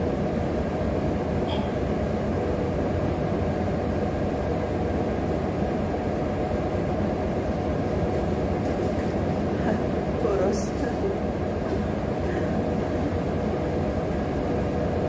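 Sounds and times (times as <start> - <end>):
low room drone: 0.0 - 15.0.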